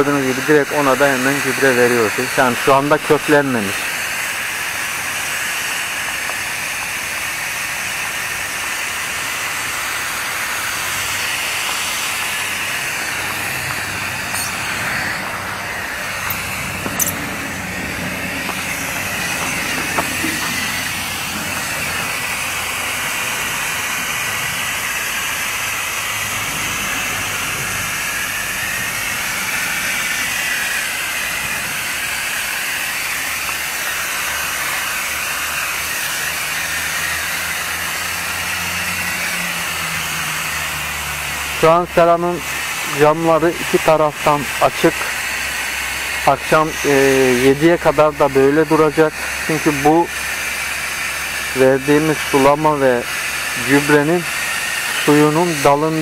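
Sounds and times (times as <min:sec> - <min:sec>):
hose nozzle spraying mist: 0:00.0 - 0:56.0.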